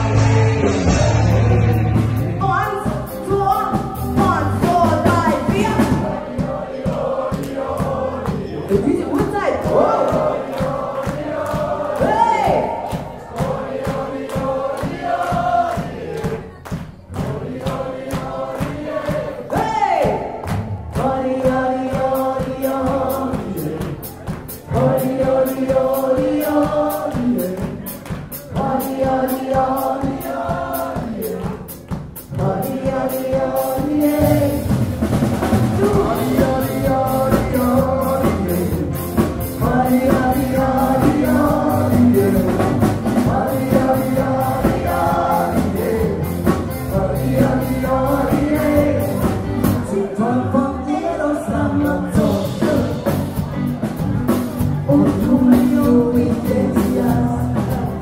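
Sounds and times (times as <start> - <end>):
dance band playing: 0.0 - 58.0
voices singing together: 0.0 - 58.0.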